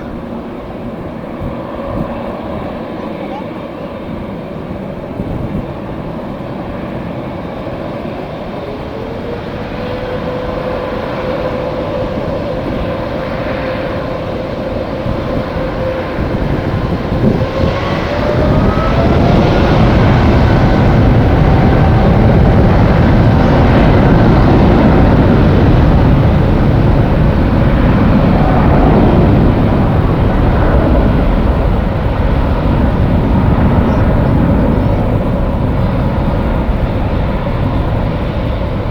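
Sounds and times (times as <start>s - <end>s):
jet engine roar: 0.0s - 38.9s
jet engine whine: 0.0s - 38.9s.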